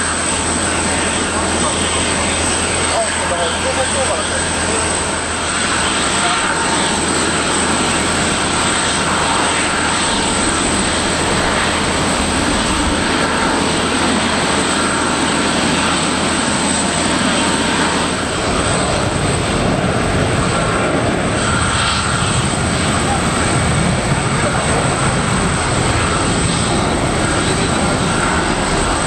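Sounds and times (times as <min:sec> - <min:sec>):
jet engines at taxi power: 0:00.0 - 0:29.0.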